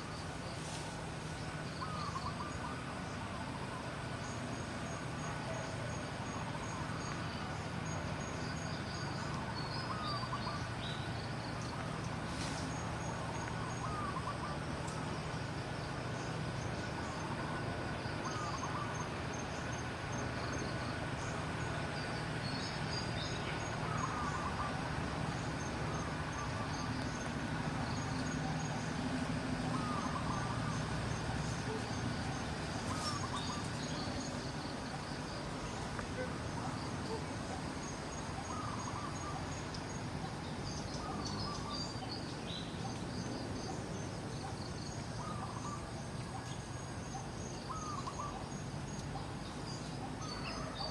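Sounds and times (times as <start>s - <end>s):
low hum and hiss: 0.0s - 50.9s.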